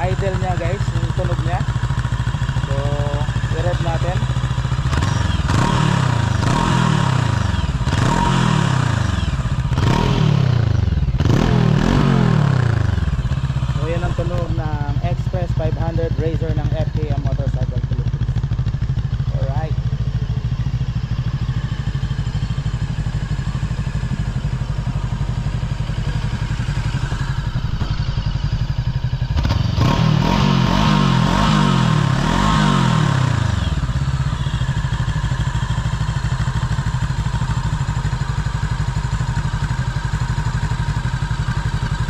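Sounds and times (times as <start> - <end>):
motorcycle engine idling and revving: 0.0 - 42.0.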